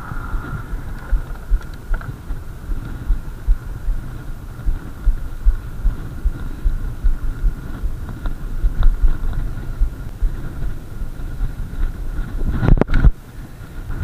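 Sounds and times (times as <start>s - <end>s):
thin steady whine: 0.0s - 14.0s
wind buffeting microphone: 0.0s - 14.0s.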